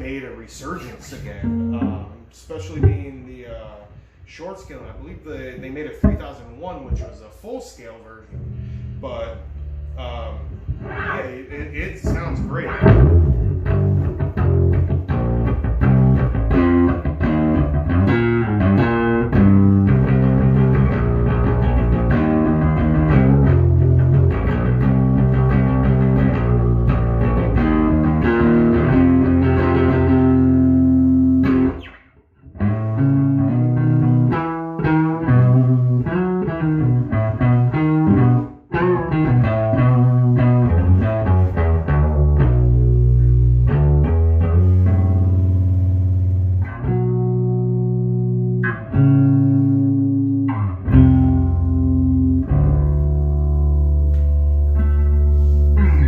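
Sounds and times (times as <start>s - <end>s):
electric bass playing: 0.0s - 7.2s, 8.2s - 56.0s.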